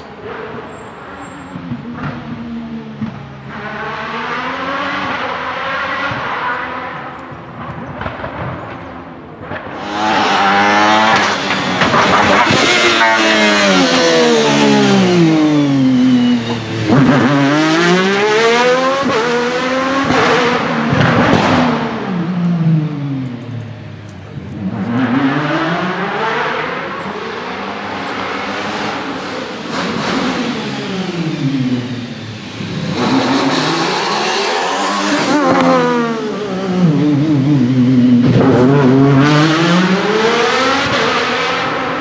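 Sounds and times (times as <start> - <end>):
race car engine revving: 0.0 - 8.8, 9.4 - 42.0.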